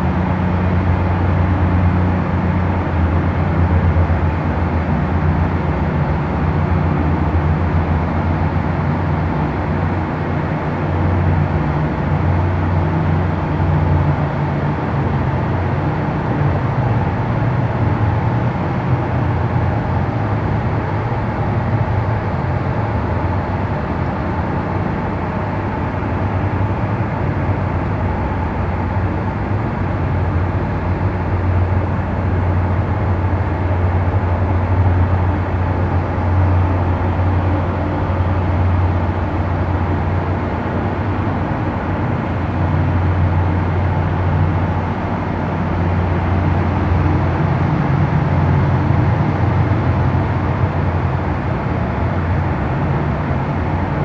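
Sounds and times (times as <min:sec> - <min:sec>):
boat engines droning: 0:00.0 - 0:54.0.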